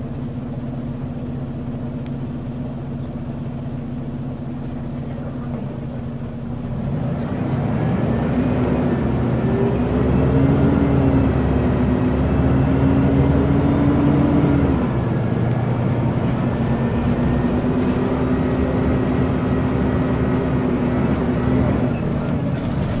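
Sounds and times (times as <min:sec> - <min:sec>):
diesel bus engine running: 0:00.0 - 0:23.0.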